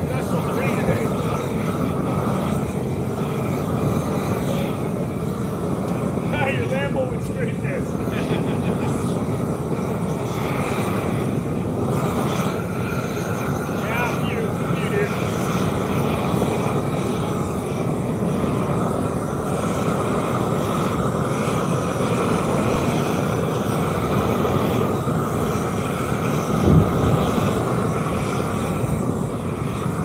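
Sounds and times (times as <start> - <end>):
machinery rumbling: 0.0 - 30.0.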